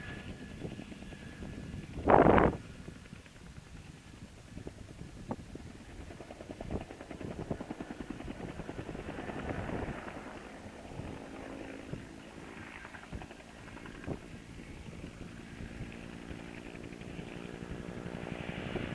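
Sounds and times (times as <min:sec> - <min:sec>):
helicopter rotor beating: 0:00.0 - 0:18.9.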